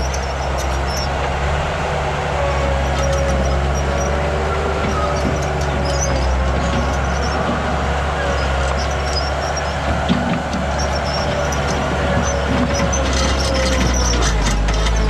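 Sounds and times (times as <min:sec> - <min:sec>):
short high squeaks: 0:00.0 - 0:01.2, 0:02.6 - 0:15.0
heavy machine engine running: 0:00.0 - 0:15.0.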